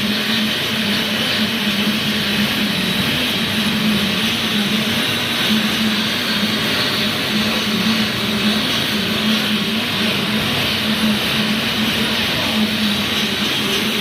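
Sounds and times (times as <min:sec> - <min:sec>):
machinery running with low hum: 0:00.0 - 0:14.0.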